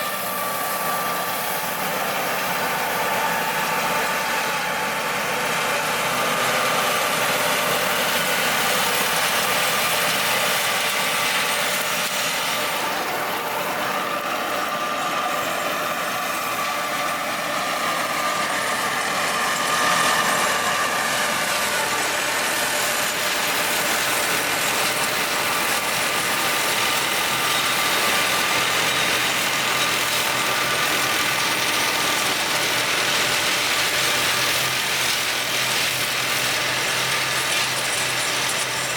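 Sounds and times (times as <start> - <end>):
flail mower engine drone: 0.0 - 38.9.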